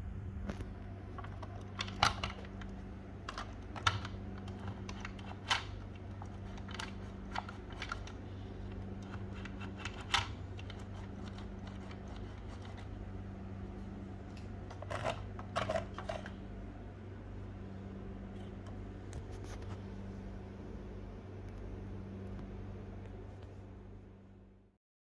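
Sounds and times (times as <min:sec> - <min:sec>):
low hum: 0:00.0 - 0:24.8.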